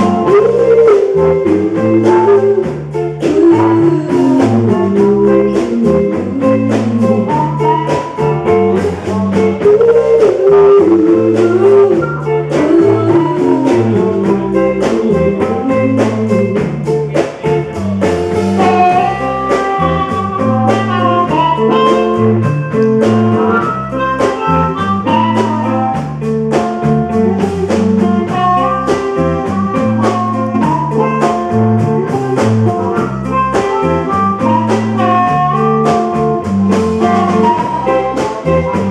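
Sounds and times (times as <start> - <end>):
amplified guitar: 0.0 - 38.9
bass line: 0.0 - 38.9
drum kit: 0.0 - 38.9.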